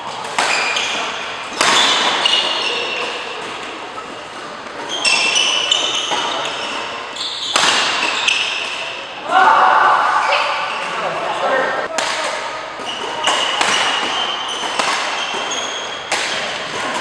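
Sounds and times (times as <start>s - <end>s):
rackets hitting shuttlecock: 0.1s - 9.1s, 11.8s - 17.0s.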